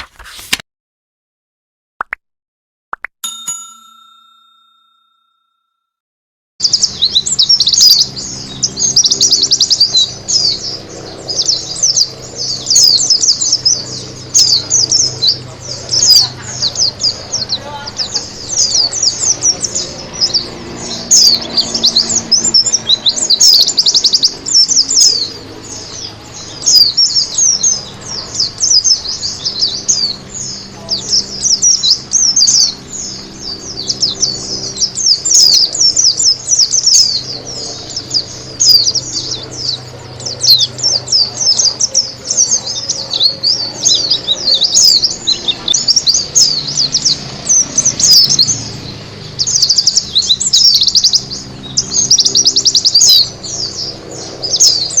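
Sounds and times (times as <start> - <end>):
bird twittering and trilling: 6.6 - 55.0.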